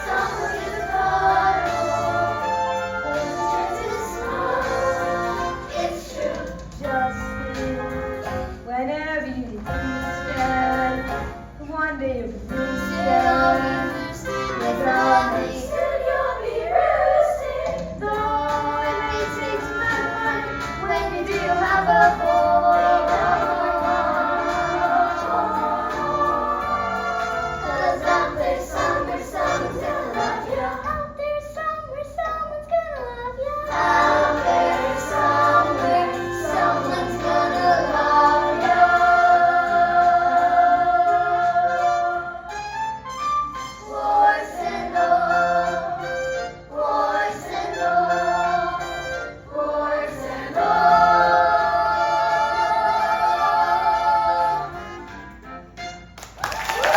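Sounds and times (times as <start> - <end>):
choir singing: 0.0 - 8.4, 12.5 - 31.0, 33.7 - 42.6, 43.8 - 55.0
musical accompaniment: 0.0 - 56.9.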